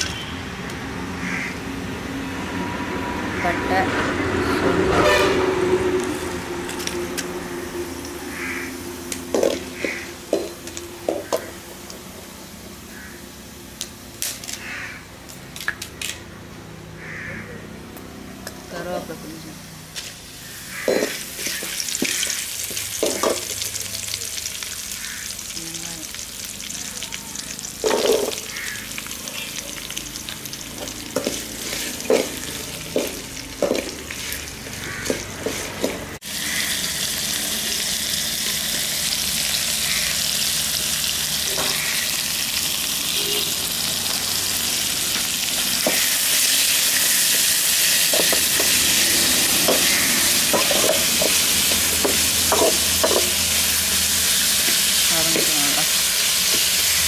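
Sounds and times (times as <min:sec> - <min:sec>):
onions sizzling in hot oil: 0:05.9 - 0:15.0, 0:18.8 - 0:57.0.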